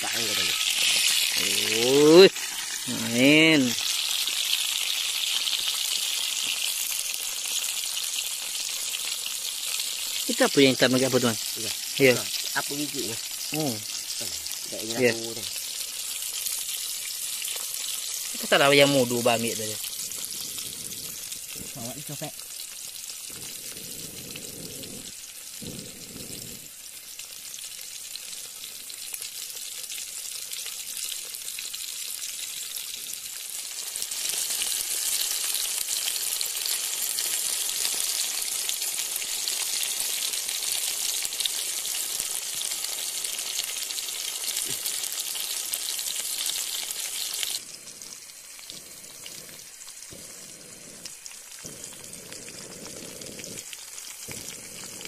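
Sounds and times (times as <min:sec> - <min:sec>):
food frying sizzle: 0:00.0 - 0:55.0.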